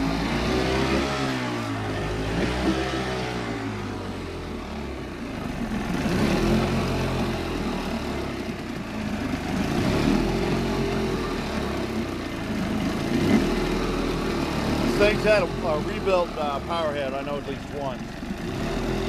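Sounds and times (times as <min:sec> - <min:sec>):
outboard motor revving: 0:00.0 - 0:19.0.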